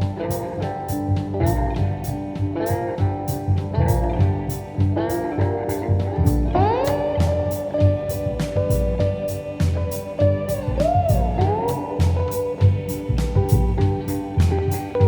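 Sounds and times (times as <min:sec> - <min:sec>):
electric guitar bending notes: 0:00.0 - 0:15.0
steady drum beat: 0:00.0 - 0:15.0.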